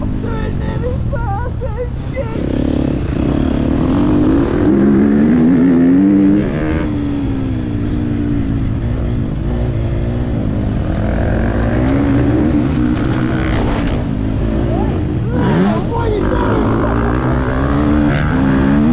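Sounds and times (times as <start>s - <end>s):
motocross bike engine revving: 2.0s - 18.9s.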